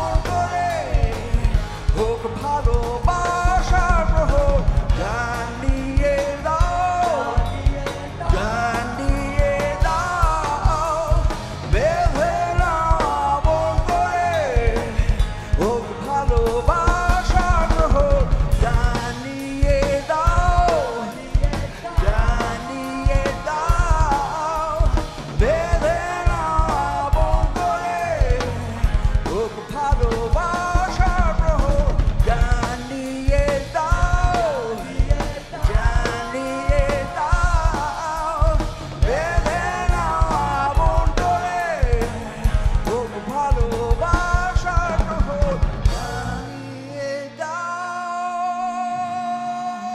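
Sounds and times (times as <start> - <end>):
drum kit: 0.0 - 47.6
live rock band playing: 0.0 - 49.9
man singing: 0.0 - 49.9.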